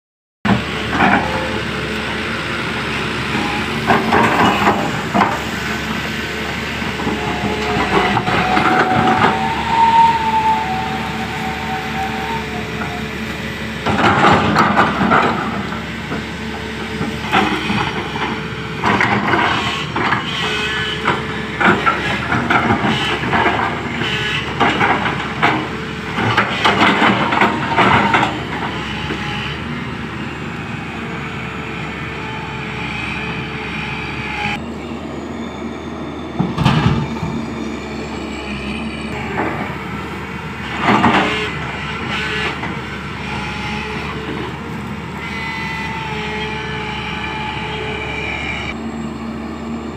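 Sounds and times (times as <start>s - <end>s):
diesel engine running: 0.5s - 49.9s.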